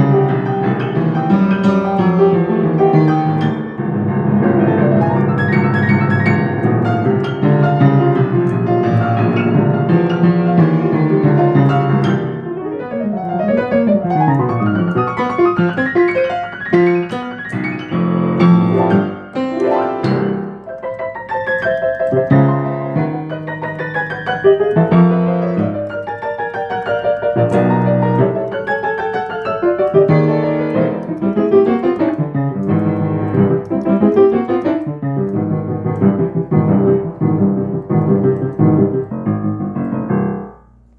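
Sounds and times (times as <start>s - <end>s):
acoustic piano playing: 0.0s - 40.9s.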